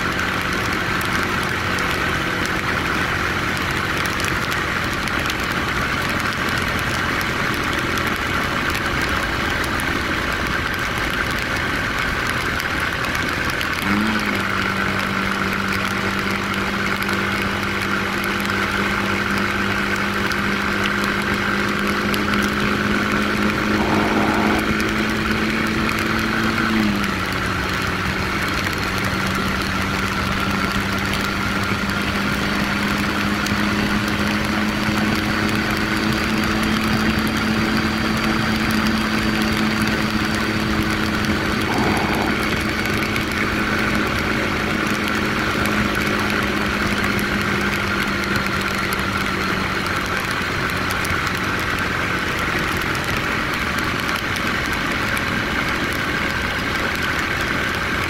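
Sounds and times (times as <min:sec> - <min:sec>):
motorcycle engine running: 0:00.0 - 0:58.0
wind and tyre noise: 0:00.0 - 0:58.0.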